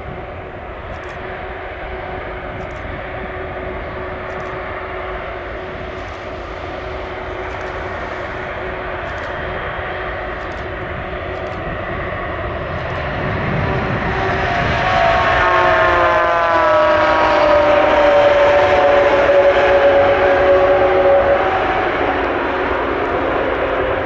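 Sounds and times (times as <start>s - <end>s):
jet airliner rushing: 0.0s - 24.0s
rising whine: 0.0s - 24.0s.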